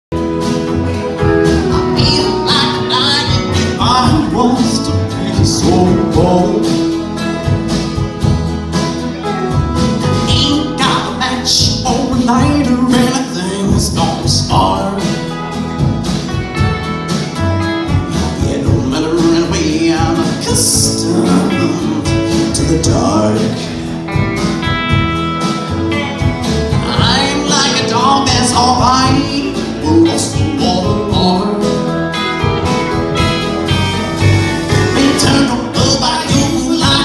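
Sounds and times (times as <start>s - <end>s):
country band playing live: 0.1s - 37.0s
electric guitar: 0.1s - 37.0s
plucked upright bass: 0.1s - 37.0s
steel guitar: 0.2s - 37.0s
strummed acoustic guitar: 0.2s - 37.0s.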